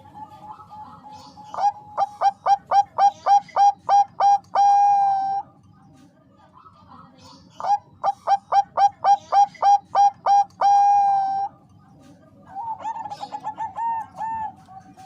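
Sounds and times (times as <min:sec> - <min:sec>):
dove cooing: 0:00.0 - 0:05.6, 0:07.6 - 0:11.6, 0:12.4 - 0:15.0.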